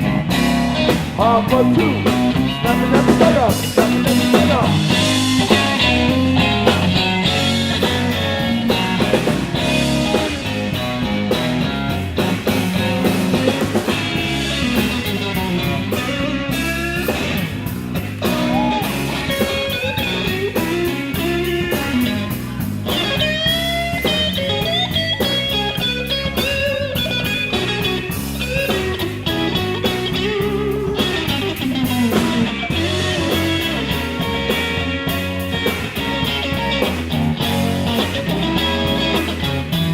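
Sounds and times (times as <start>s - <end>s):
bass: 0.0s - 39.9s
drums: 0.0s - 39.9s
electric guitar lead: 0.0s - 39.9s.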